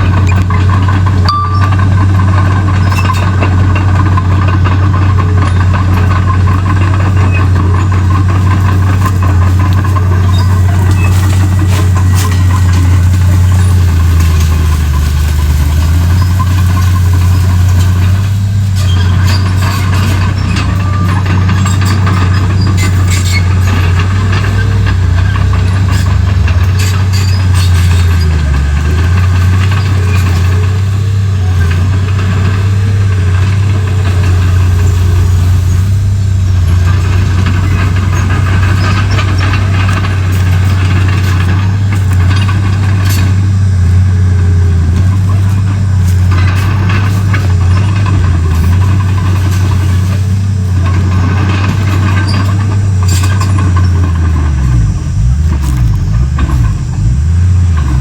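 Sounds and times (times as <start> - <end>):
bulldozer diesel engine running: 0.0 - 58.0
sharp clicks and rattles: 0.0 - 58.0.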